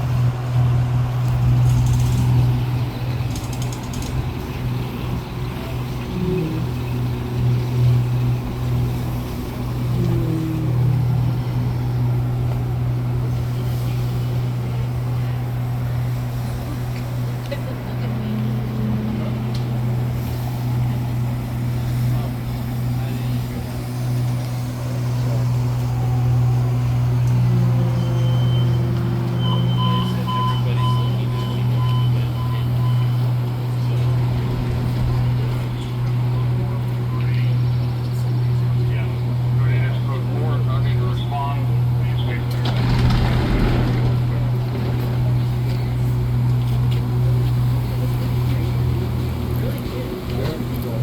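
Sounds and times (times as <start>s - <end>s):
constant rushing noise: 0.0s - 51.0s
tram low hum: 0.0s - 51.0s.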